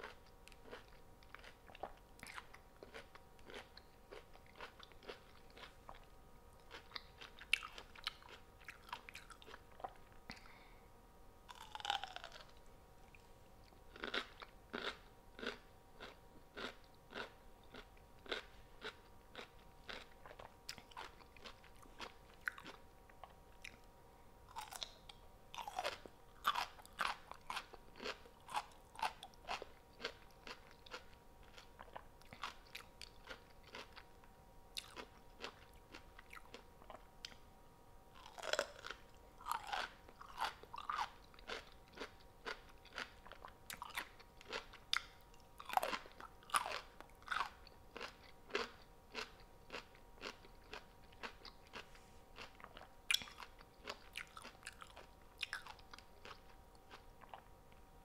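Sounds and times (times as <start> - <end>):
person chewing crunchy food: 0.0 - 10.6, 11.5 - 23.9, 24.5 - 34.1, 34.7 - 37.4, 38.2 - 57.8
faint steady hum: 0.0 - 58.0.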